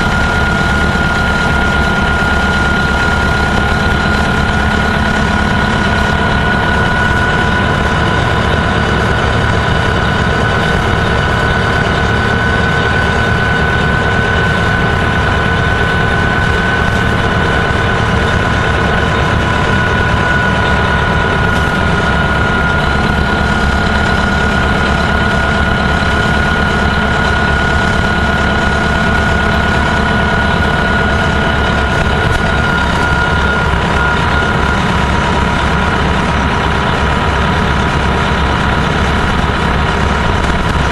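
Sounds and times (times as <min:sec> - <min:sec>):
bus diesel engine droning: 0:00.0 - 0:40.9
high-pitched whine: 0:00.0 - 0:40.9.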